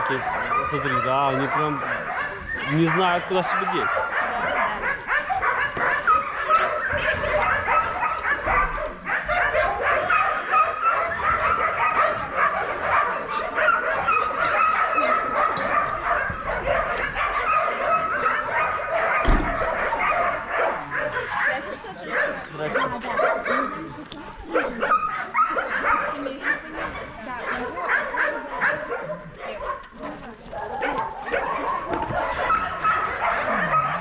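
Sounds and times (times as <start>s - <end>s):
many dogs barking: 0.0s - 34.0s.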